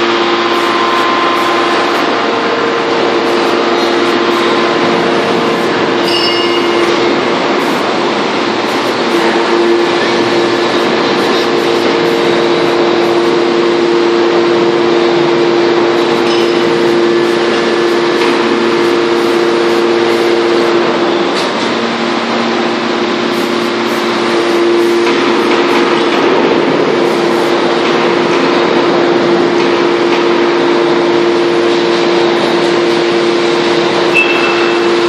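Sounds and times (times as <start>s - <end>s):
hydraulic power unit droning: 0.0s - 35.0s.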